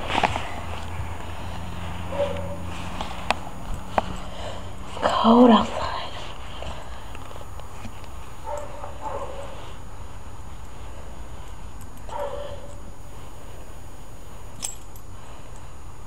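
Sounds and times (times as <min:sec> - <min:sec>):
low background hiss: 0:00.0 - 0:16.0.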